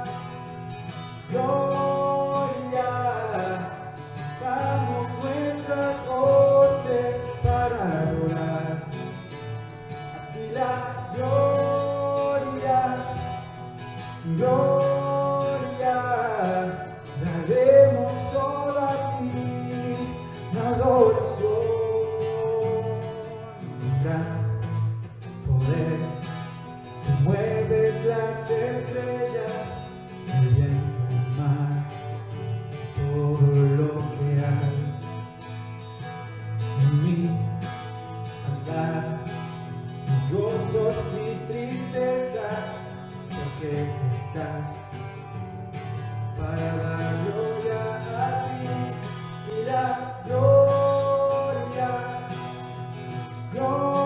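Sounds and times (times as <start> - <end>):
man singing: 0.0 - 35.3, 36.5 - 54.0
strummed acoustic guitar: 0.0 - 54.0.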